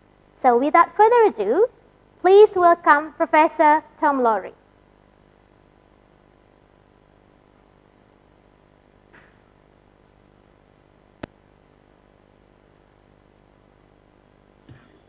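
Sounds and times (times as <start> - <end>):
faint room tone hum: 0.0 - 15.0.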